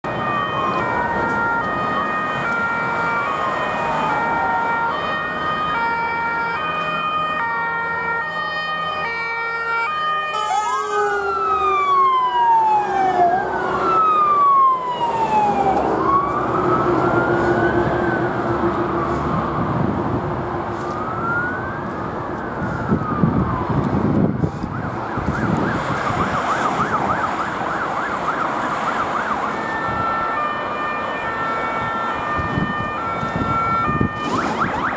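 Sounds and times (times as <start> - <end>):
fire engine sirens: 0.0 - 34.9
passing road traffic: 0.0 - 34.9.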